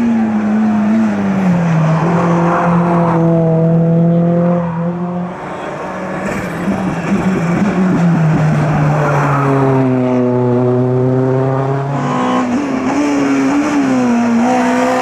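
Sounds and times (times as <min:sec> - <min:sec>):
race car engine passing: 0:00.0 - 0:15.0
second engine: 0:02.0 - 0:15.0.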